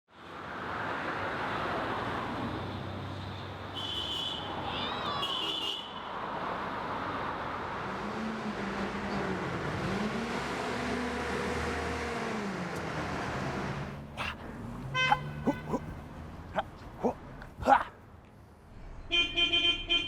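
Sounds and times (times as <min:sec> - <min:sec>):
cars passing: 0:00.2 - 0:03.8, 0:05.9 - 0:20.0.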